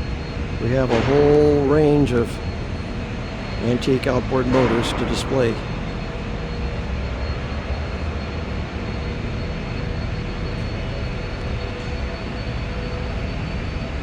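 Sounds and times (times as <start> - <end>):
faint hum: 0.0 - 13.2
machinery rumble and hiss: 0.0 - 14.0.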